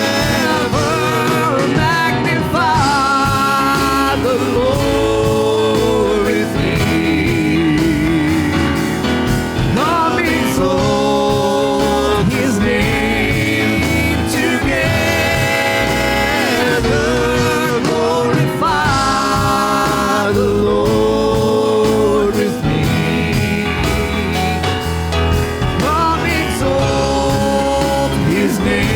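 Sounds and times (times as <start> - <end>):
live gospel band playing: 0.0 - 28.9.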